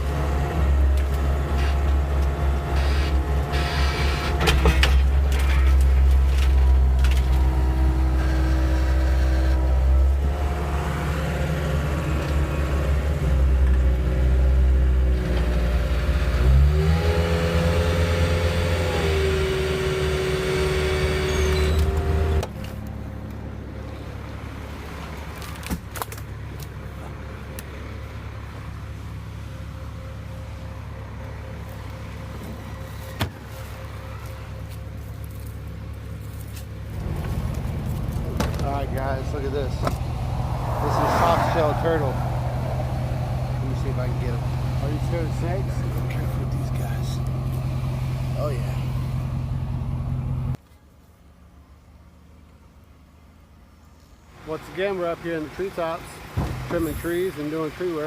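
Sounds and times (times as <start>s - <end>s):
diesel engine running with whine: 0.0s - 50.6s.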